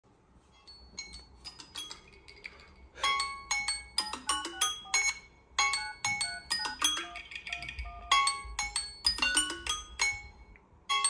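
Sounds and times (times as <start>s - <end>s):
xylophone-like mallet tune: 0.6s - 11.0s.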